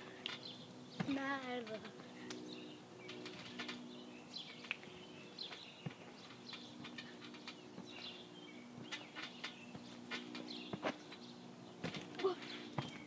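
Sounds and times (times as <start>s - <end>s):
birds chirping: 0.0s - 13.0s
trampoline clicks and thud: 0.2s - 13.0s.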